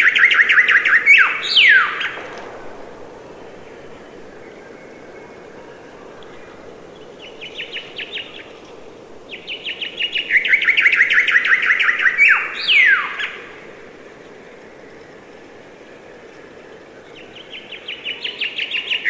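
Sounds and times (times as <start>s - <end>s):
songbird singing: 0.0s - 19.0s
steady background noise: 0.0s - 19.0s.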